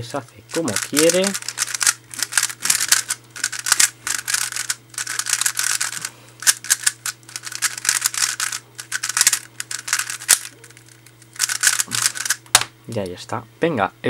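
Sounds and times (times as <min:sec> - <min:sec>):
faint steady hum: 0:00.0 - 0:14.0
puzzle cube clicking and rattling: 0:00.3 - 0:12.5.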